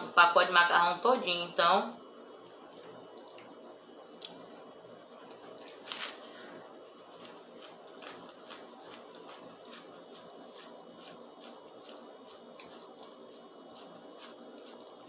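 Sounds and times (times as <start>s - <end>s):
chewing spaghetti: 2.4s - 15.0s.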